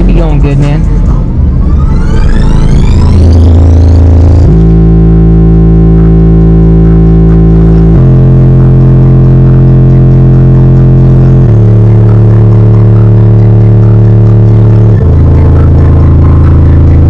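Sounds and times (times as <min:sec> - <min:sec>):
bass-heavy music from subwoofers: 0:00.0 - 0:17.0.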